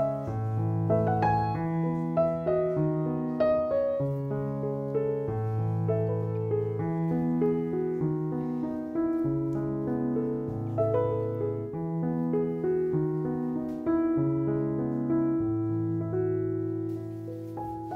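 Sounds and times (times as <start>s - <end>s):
gentle piano music: 0.0s - 17.9s.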